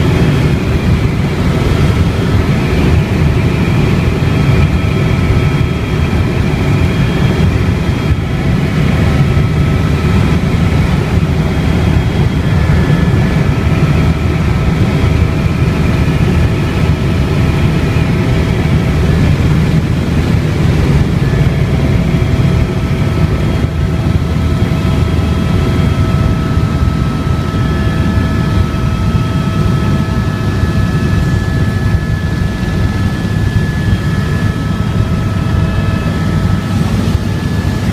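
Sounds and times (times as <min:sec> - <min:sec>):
helicopter rumbling: 0:00.0 - 0:37.9.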